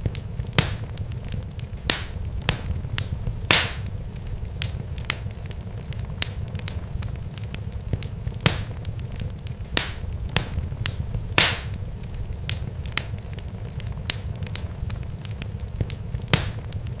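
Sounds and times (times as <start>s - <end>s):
crackles and pops: 0.0s - 17.0s
steady low rumble: 0.0s - 17.0s.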